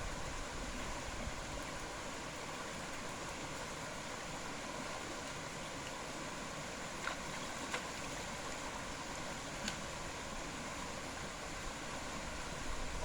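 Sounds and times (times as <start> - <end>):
night background hiss: 0.0 - 13.0.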